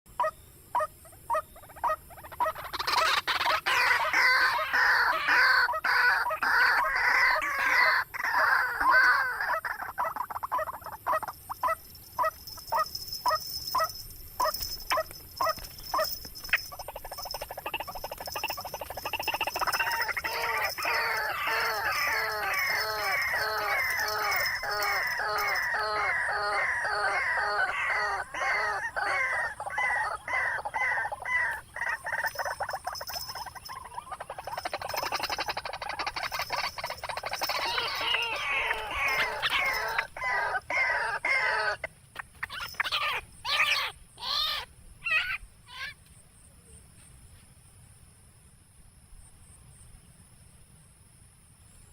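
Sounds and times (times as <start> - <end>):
waterhen calling: 0.2 - 46.0.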